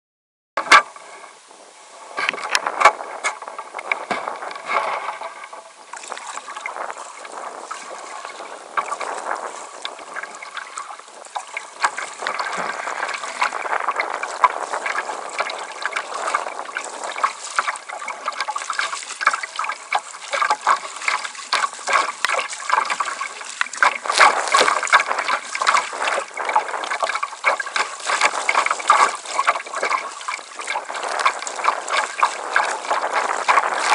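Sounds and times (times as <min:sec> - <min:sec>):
river water splashing against kayak: 0:00.6 - 0:33.9.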